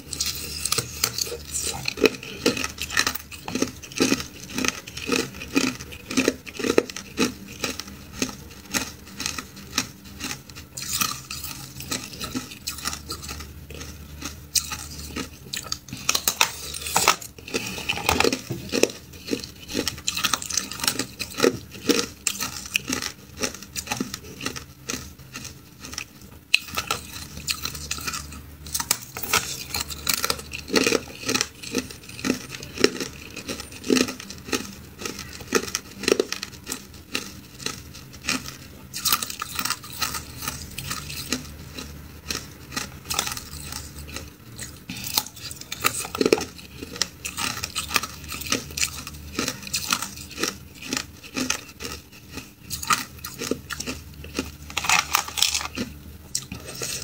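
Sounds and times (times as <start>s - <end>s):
chewing hard ice: 0.0s - 57.0s.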